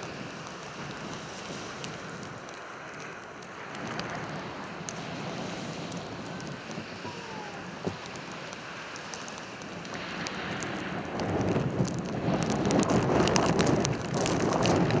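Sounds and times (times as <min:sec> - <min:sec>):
light ticks: 0:00.0 - 0:05.1, 0:07.9 - 0:15.0
snowstorm wind gusting: 0:00.0 - 0:15.0.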